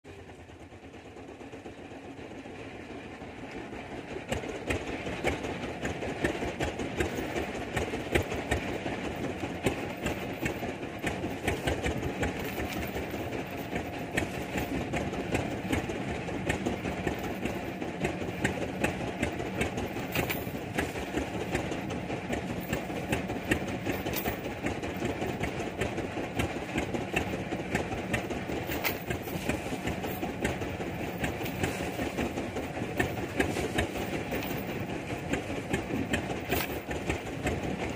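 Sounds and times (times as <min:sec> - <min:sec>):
boat engine chugging: 0:00.1 - 0:37.9.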